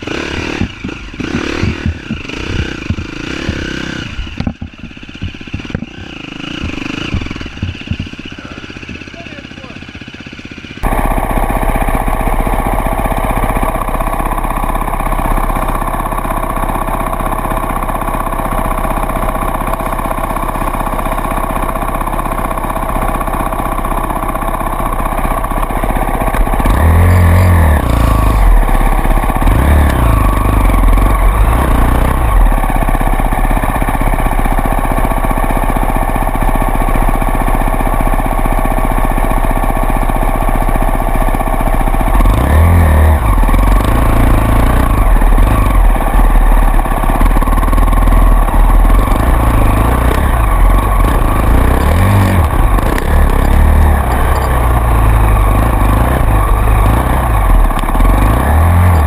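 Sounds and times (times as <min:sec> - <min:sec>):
off-road vehicle engine revving: 0:00.0 - 0:04.7, 0:05.4 - 0:09.8, 0:10.8 - 0:59.0.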